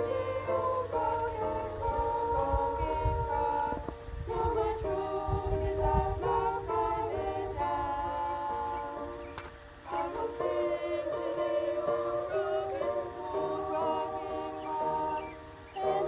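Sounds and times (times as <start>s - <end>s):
women's choir singing a cappella: 0.0s - 16.0s.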